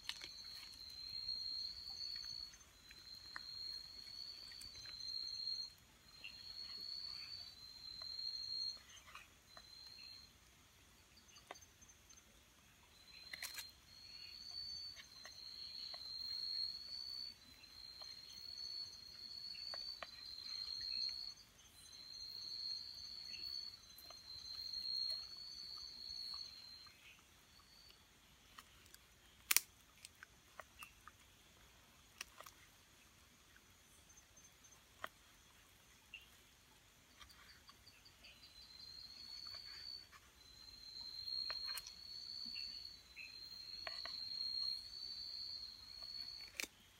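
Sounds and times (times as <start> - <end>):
night insect calling: 0.0 - 46.9.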